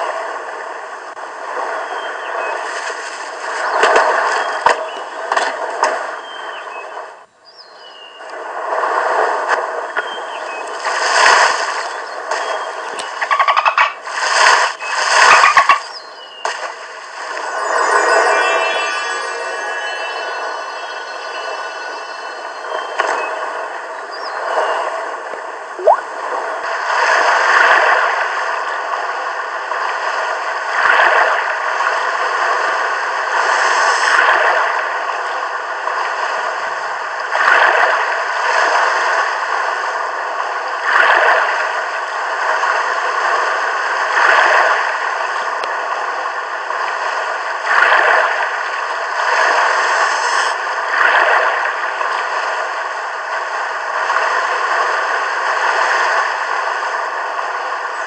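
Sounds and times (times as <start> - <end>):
rushing water-like noise: 8.3 - 58.0.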